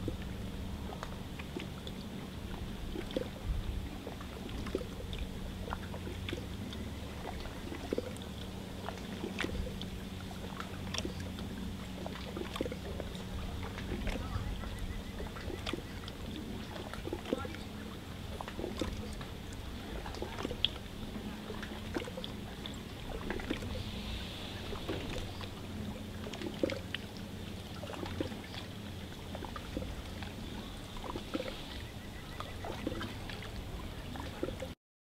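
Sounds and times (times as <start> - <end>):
steady low hum: 0.0 - 34.8
water lapping against boat hull: 0.0 - 34.8.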